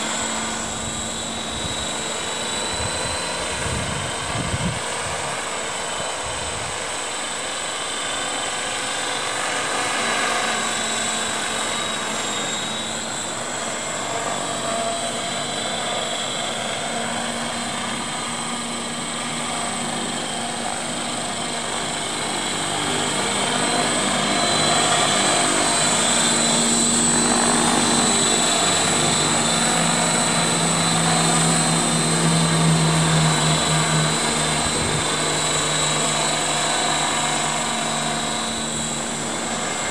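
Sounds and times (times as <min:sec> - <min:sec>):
helicopter motor whine: 0:00.0 - 0:39.9
rotor blades: 0:00.0 - 0:39.9.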